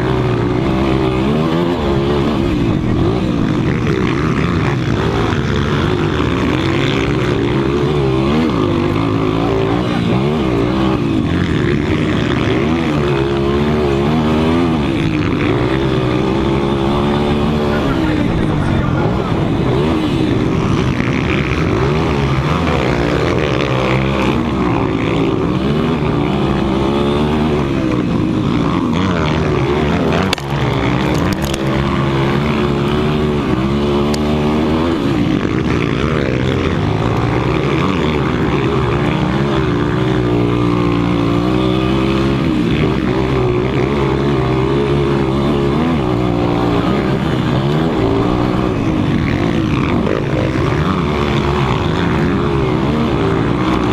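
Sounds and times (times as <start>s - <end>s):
motocross bike engines revving: 0.0s - 53.9s.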